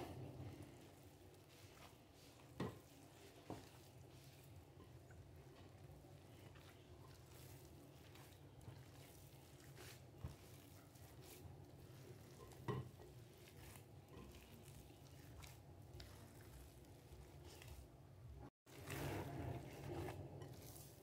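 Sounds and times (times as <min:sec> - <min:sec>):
hand kneading dough: 0:00.0 - 0:21.0.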